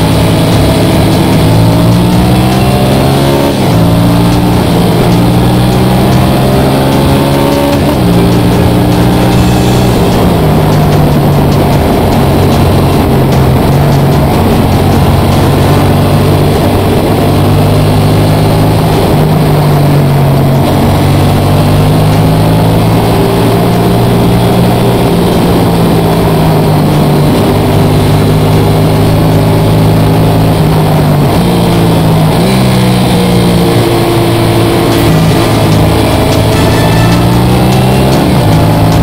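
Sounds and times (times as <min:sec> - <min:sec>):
vehicle engine running: 0:00.0 - 0:39.0
wind and road noise: 0:00.0 - 0:39.0.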